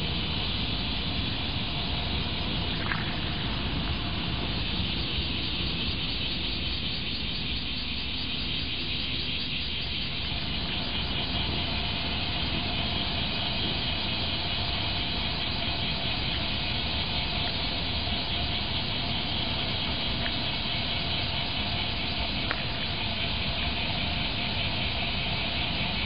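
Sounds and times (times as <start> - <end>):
high hiss: 0.0 - 26.0.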